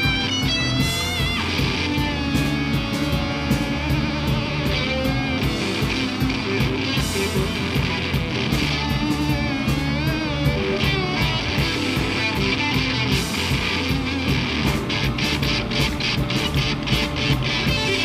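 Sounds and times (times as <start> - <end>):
live rock band playing: 0.0 - 18.0
wavering high guitar line: 0.0 - 18.0.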